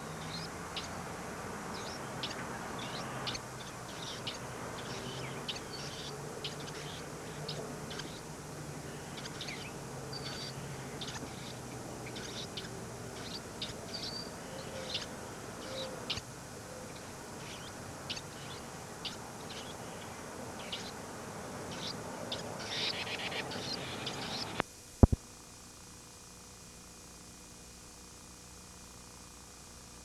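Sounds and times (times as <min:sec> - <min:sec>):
songbirds chirping: 0:00.0 - 0:24.6
tape hiss: 0:00.0 - 0:30.0.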